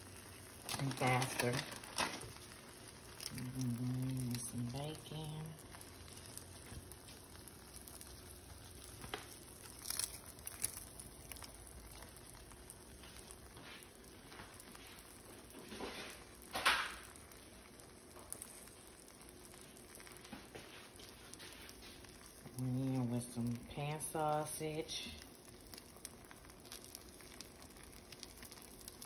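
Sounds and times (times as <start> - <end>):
bacon crumbling: 0.0 - 23.0, 25.2 - 29.0
faint steady hiss: 0.0 - 29.0.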